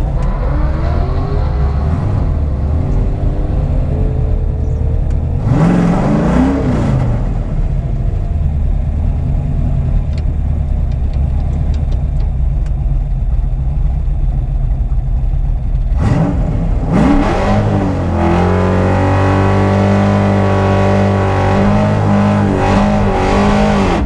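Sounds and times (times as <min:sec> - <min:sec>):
car engine revving: 0:00.0 - 0:12.2, 0:15.6 - 0:24.0.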